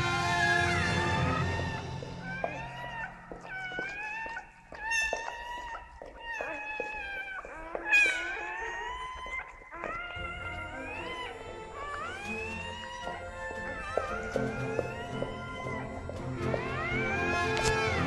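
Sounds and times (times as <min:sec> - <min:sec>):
puppies squealing: 0:00.0 - 0:18.0.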